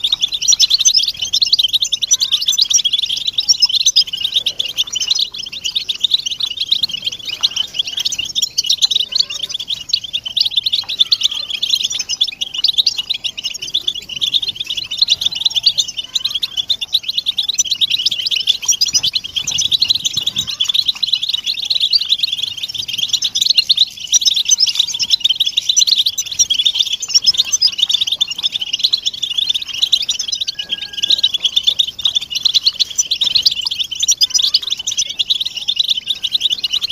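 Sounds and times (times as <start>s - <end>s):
flock of finches twittering: 0.0s - 36.9s.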